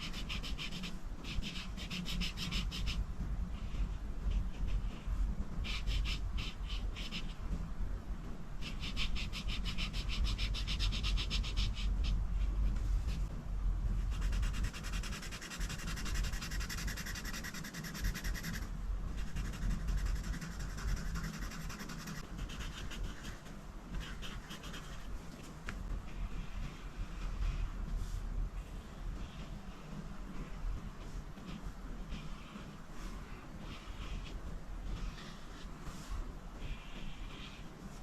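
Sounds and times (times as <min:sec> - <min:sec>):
coloring tool rubbing on paper: 0:00.0 - 0:07.5, 0:08.6 - 0:13.3, 0:14.0 - 0:25.2, 0:29.2 - 0:38.0
low steady hum: 0:00.0 - 0:38.0.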